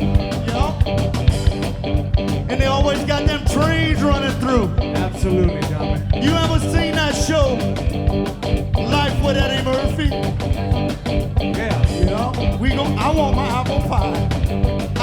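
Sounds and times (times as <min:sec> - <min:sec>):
singing voice: 0:00.0 - 0:01.5, 0:02.3 - 0:08.0, 0:08.7 - 0:15.0
guitar: 0:00.0 - 0:15.0
steady drum beat: 0:00.0 - 0:15.0.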